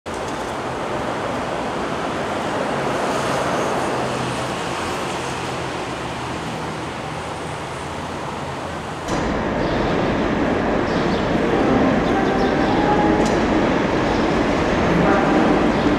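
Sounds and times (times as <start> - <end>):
street traffic rumble: 0.1 - 15.9.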